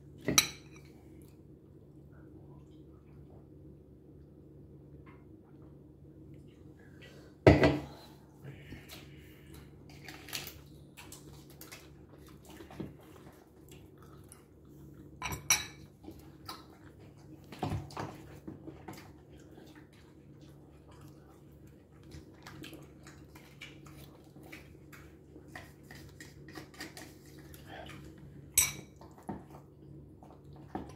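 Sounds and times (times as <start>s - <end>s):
faint low hum: 0.0s - 30.9s.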